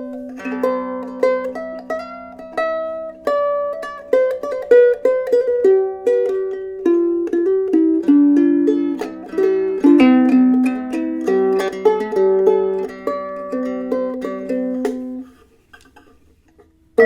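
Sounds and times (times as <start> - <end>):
fingerpicked ukulele melody: 0.0 - 17.0.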